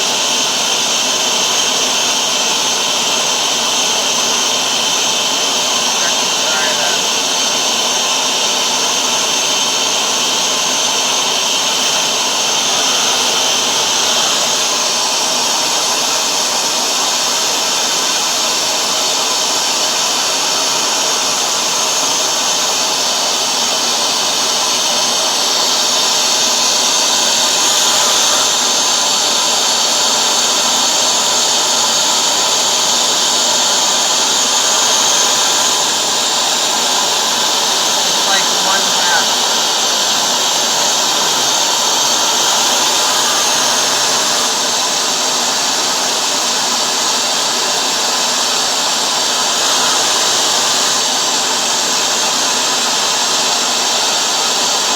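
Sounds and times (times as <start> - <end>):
carpet washer motor whine: 0.0 - 54.9.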